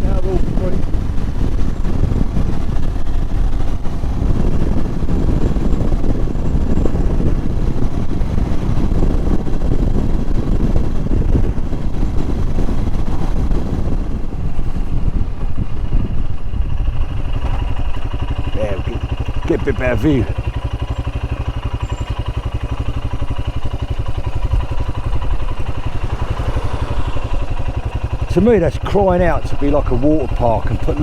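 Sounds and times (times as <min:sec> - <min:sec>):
motorcycle engine running: 0:00.0 - 0:31.0
wind buffeting on microphone: 0:00.0 - 0:31.0.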